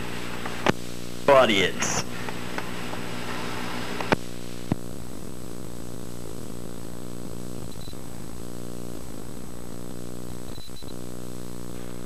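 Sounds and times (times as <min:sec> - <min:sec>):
tape playback hum and hiss: 0:00.0 - 0:12.0.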